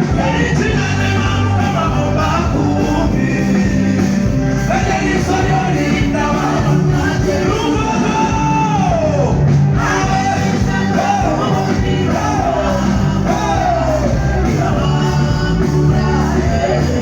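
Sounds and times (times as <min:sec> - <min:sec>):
person singing: 0:00.0 - 0:09.2, 0:09.8 - 0:17.0
live band music: 0:00.0 - 0:17.0.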